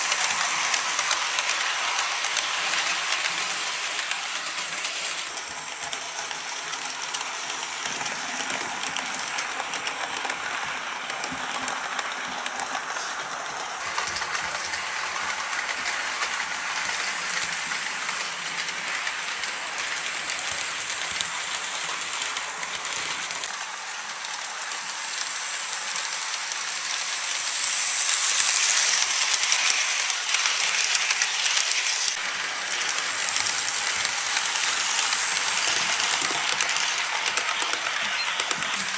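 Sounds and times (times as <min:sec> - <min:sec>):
model train rattling on rails: 0:00.0 - 0:38.9.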